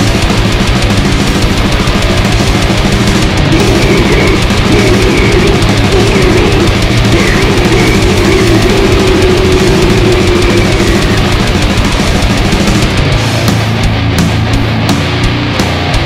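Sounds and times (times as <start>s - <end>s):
distorted guitars: 0.0s - 16.0s
drum kit playing: 0.0s - 16.0s.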